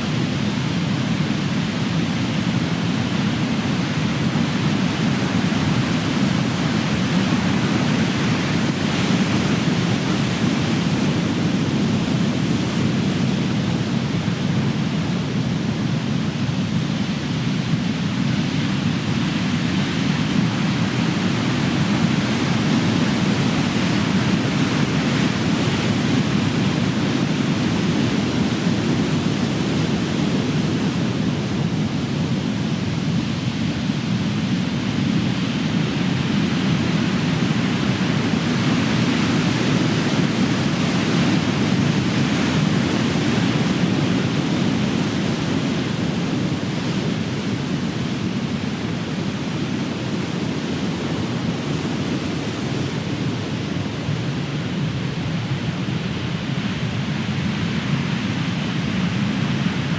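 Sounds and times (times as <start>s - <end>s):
ocean surf: 0.0s - 59.9s.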